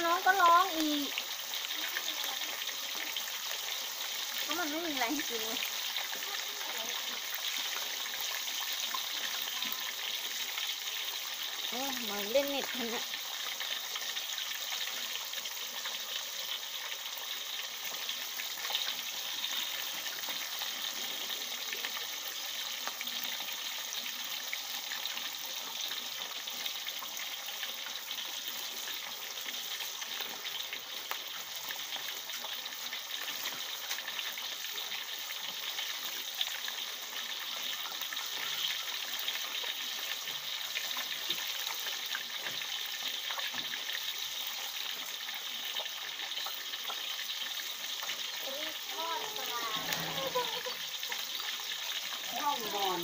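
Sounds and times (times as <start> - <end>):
fish deep-frying in hot oil: 0.0 - 53.0.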